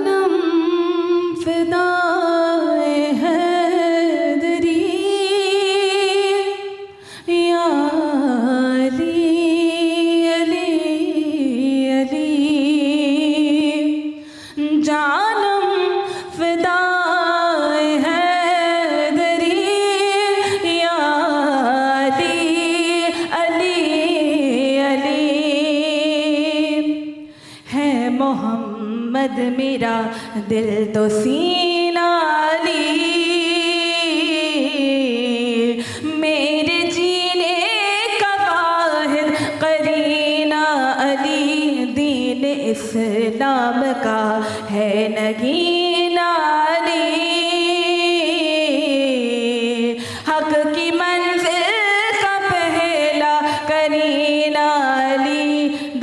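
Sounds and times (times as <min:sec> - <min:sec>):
woman singing into a microphone: 0:00.0 - 0:56.0.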